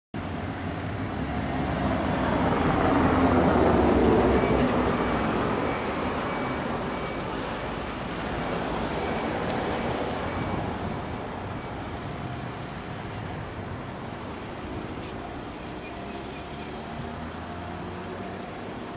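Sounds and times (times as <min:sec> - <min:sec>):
traffic rumble: 0:00.2 - 0:18.9
vehicle passing: 0:01.1 - 0:18.9.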